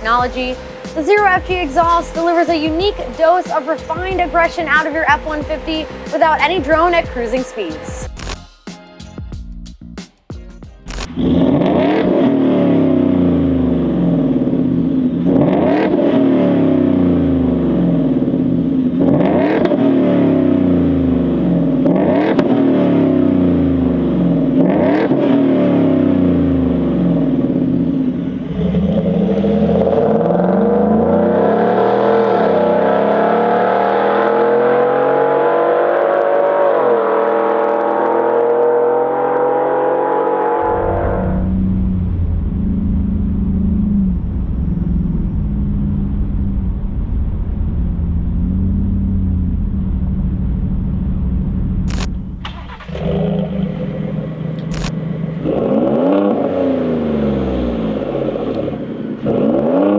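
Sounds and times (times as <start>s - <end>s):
pickup truck engine revving: 0.0s - 7.9s, 10.9s - 59.9s.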